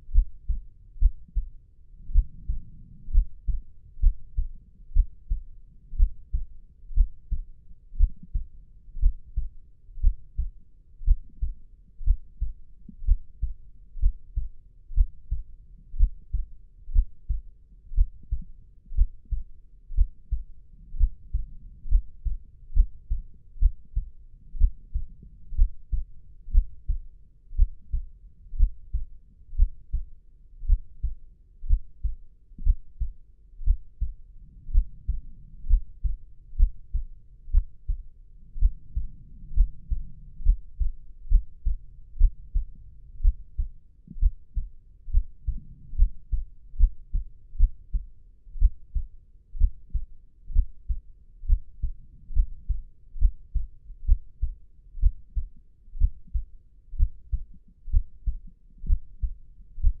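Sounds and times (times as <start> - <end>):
human heartbeat: 0.0 - 60.0.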